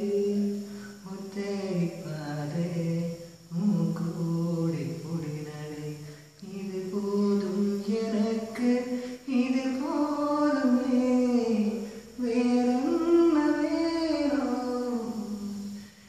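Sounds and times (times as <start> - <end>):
young man singing unaccompanied: 0.0 - 16.0.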